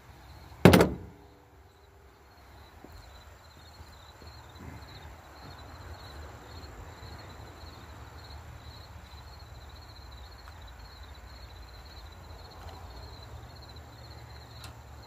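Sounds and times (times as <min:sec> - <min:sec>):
insect chirping: 0:00.1 - 0:15.0.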